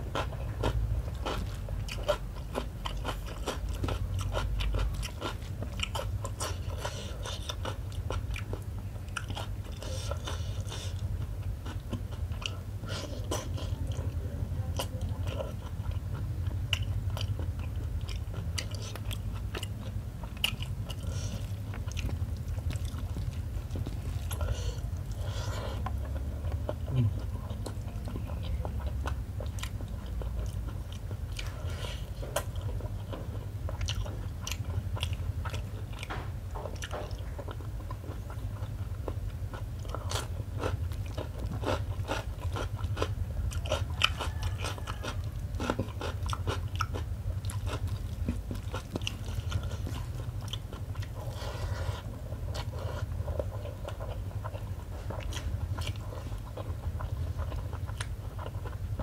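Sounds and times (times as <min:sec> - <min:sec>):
wet chewing and mouth sounds: 0:00.0 - 0:59.0.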